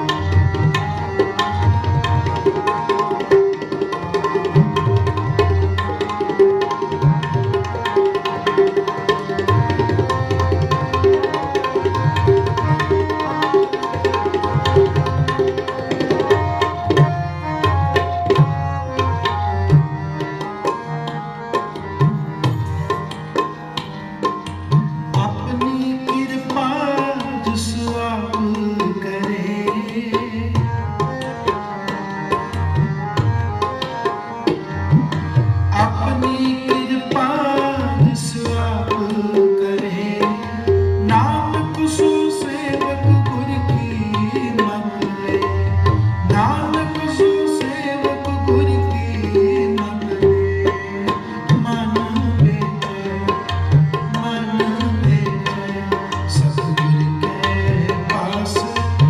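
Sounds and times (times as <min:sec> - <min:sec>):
tabla playing a busy rhythm: 0:00.0 - 0:59.0.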